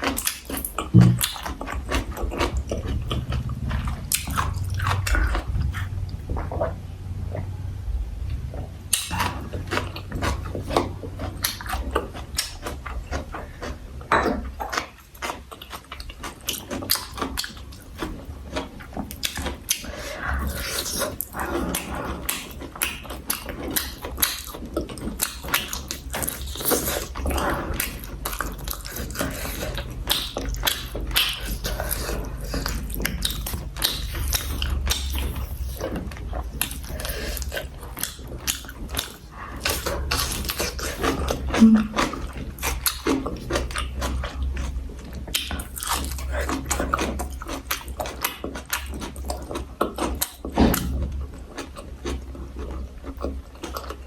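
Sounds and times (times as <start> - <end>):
close chewing of food: 0.0 - 54.0.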